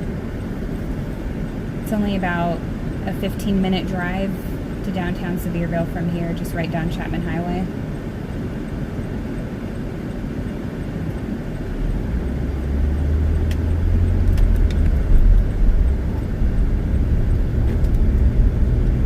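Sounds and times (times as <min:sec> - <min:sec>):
car engine rumble inside cabin: 0:00.0 - 0:19.0
road noise: 0:00.0 - 0:19.0.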